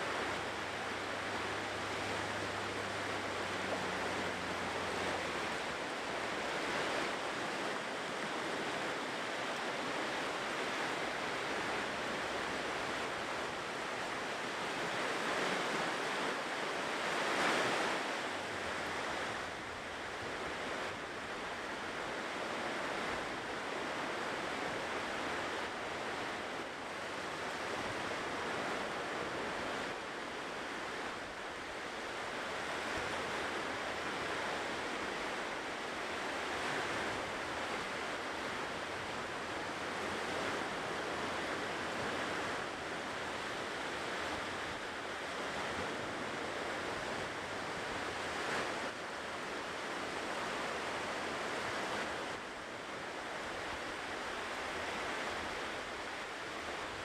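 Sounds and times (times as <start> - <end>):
ocean surf washing ashore: 0.0 - 57.0.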